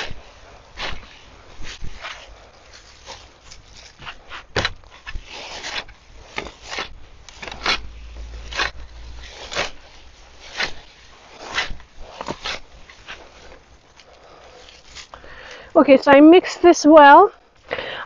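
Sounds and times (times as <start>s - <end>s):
tool scraping through compost: 0.0s - 15.6s.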